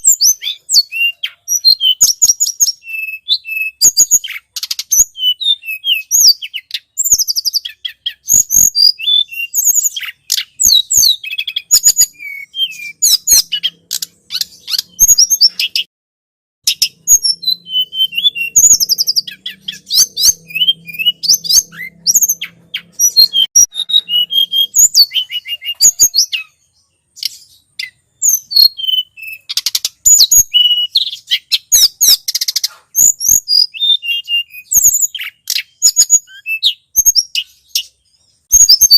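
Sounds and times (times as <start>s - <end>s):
bird chirps and trills: 0.0s - 15.9s, 16.6s - 38.9s.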